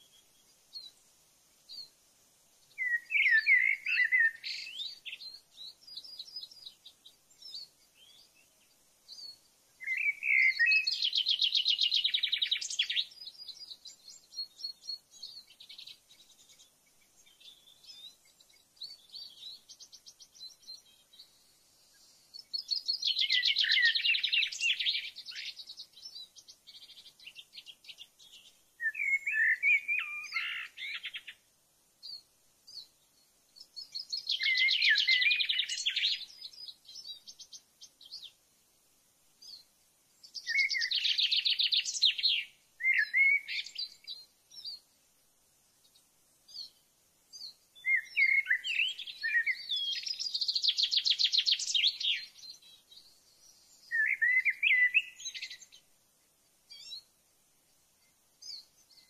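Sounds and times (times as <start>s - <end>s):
soft bird chirps: 0.0s - 59.0s.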